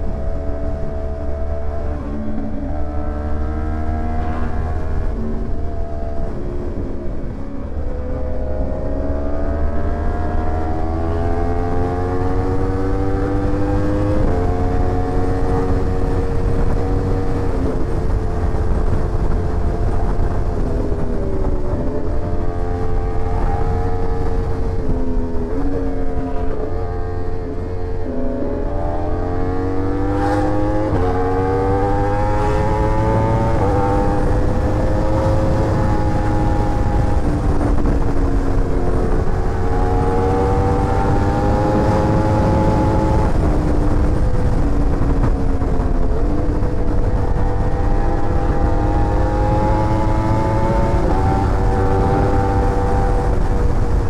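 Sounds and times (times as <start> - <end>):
steady low rumble: 0.0 - 9.1, 13.5 - 54.0
motorcycle engine accelerating: 0.0 - 54.0.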